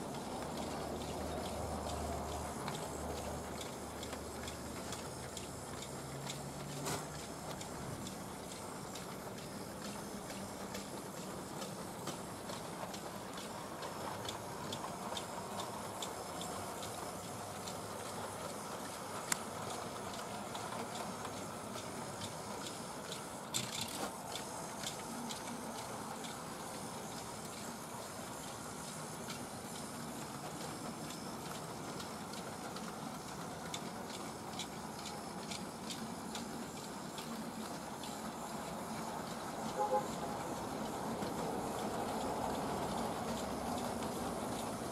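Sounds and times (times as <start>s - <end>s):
model train motor whirring: 0.0s - 44.9s
wheels clicking over rail joints: 0.0s - 44.9s.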